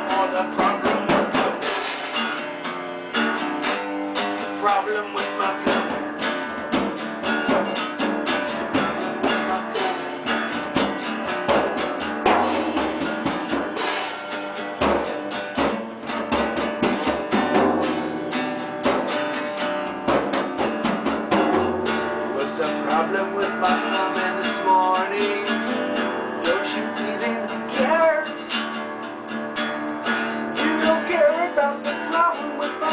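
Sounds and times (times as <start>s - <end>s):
drum kit: 0.0s - 28.8s
guitar: 0.0s - 32.9s.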